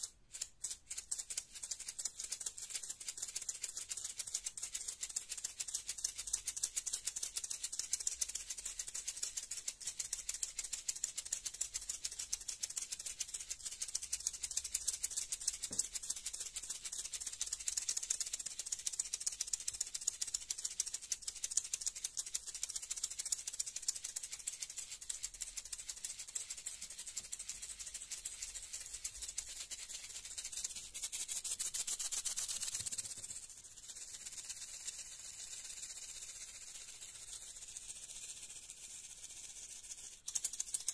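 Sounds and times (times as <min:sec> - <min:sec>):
maracas rattling: 0:00.0 - 0:40.9.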